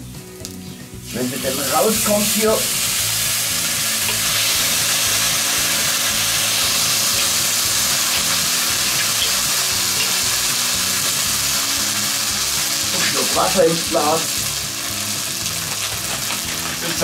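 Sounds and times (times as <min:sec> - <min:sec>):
food sizzling in a pot: 0:00.4 - 0:17.0.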